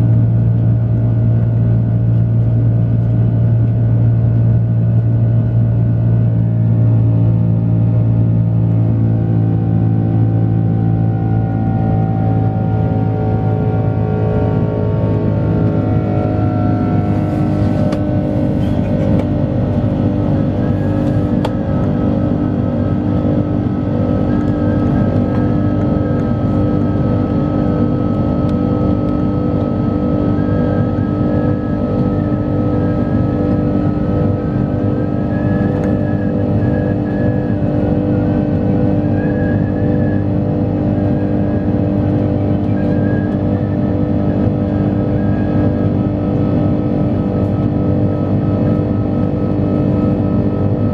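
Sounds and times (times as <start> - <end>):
jet engines droning: 0.0 - 50.9.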